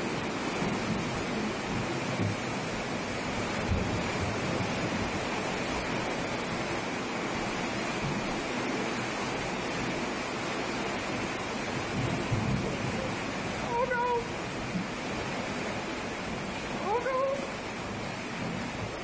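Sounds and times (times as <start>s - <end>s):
rushing floodwater: 0.0s - 19.0s.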